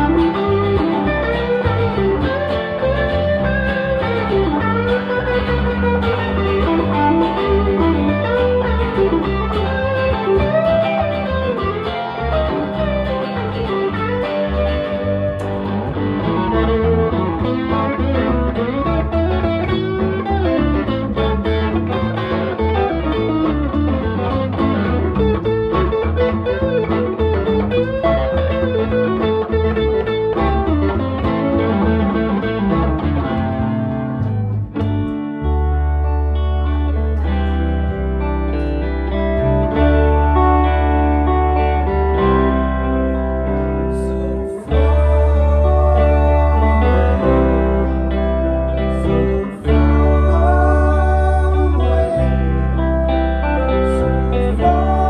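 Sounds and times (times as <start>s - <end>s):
bass guitar: 0.0s - 55.0s
lead electric guitar bending notes: 0.0s - 55.0s
rhythm guitar: 0.0s - 55.0s.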